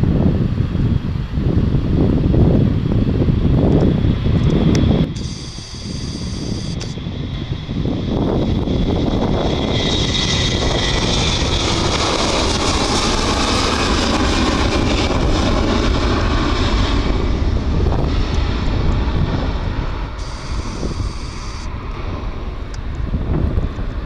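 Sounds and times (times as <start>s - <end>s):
airliner engines passing: 0.0s - 24.0s.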